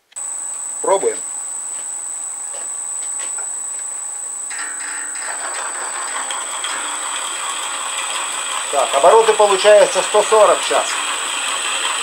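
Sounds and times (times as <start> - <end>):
drilling machine high whine: 0.0 - 12.0
drill scraping into steel: 0.2 - 12.0.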